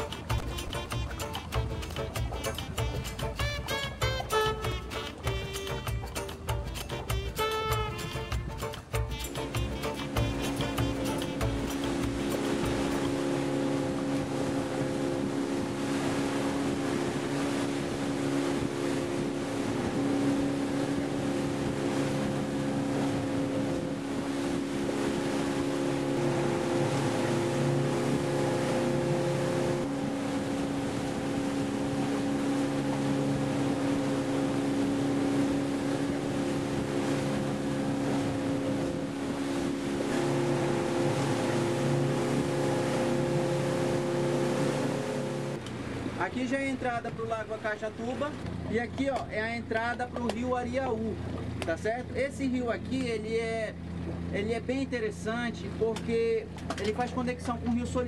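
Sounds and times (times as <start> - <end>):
boat engine humming: 0.0 - 58.0
water rushing past hull: 0.0 - 58.0
wind: 0.0 - 58.0.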